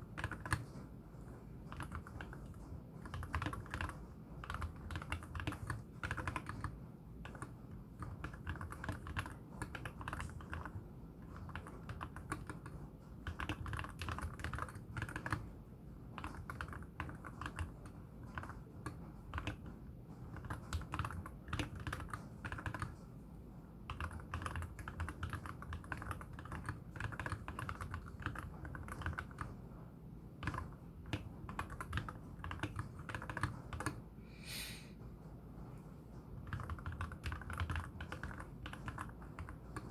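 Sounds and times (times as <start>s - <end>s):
mechanical keyboard typing: 0.0s - 0.9s, 1.6s - 23.0s, 23.8s - 29.6s, 30.4s - 34.0s, 36.4s - 39.9s.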